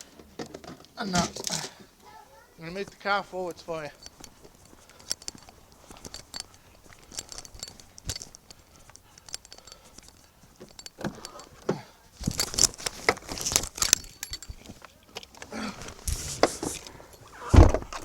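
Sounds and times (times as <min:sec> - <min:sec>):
keys jangling: 0:02.3 - 0:18.0.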